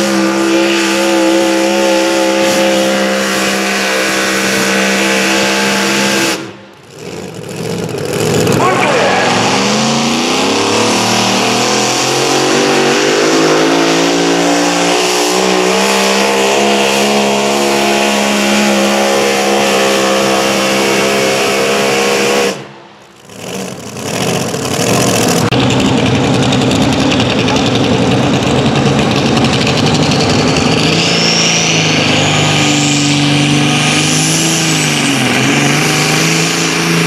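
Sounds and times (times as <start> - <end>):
engine at full throttle under load: 0.0 - 37.0.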